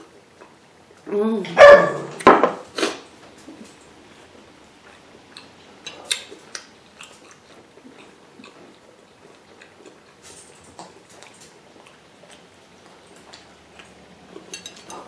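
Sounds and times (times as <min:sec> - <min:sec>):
person chewing food: 0:00.0 - 0:01.0, 0:02.8 - 0:15.0.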